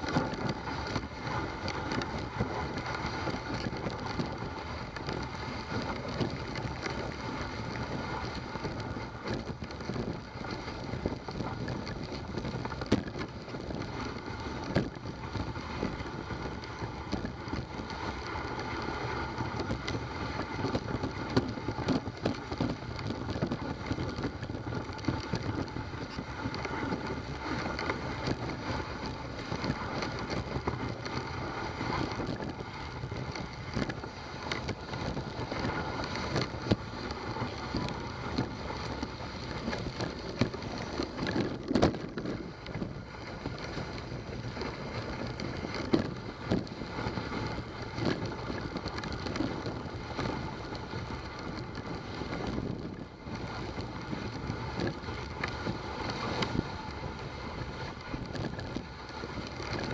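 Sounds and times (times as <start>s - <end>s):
sled knocking and rattling: 0.0s - 59.9s
sled runners scraping snow: 0.0s - 59.9s.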